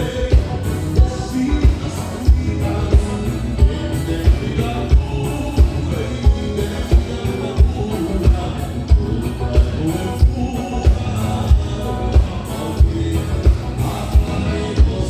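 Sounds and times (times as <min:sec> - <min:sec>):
dance band playing: 0:00.0 - 0:15.0.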